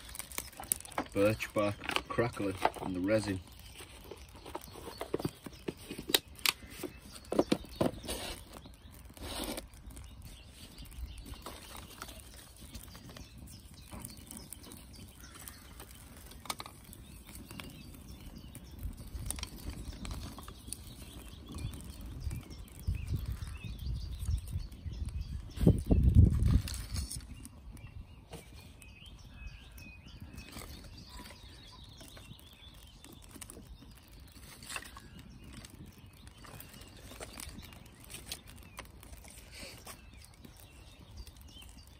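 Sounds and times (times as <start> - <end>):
kindling fire crackling and popping: 0.0 - 41.9.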